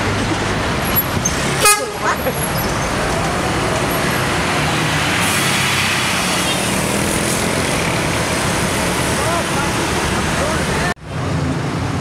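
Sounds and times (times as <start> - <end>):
bus diesel engine passing: 0.0 - 12.0
tyre and road noise: 0.0 - 12.0.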